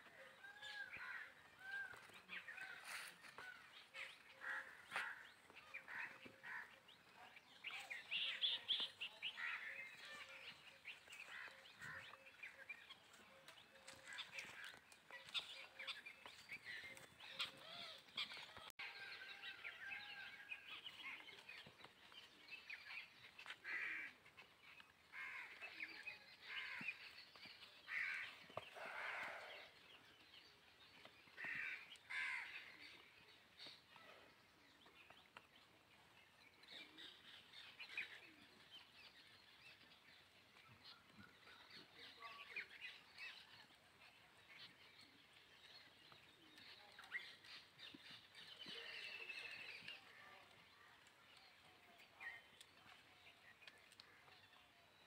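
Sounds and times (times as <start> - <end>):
birds chirping and calling: 0.0 - 55.0.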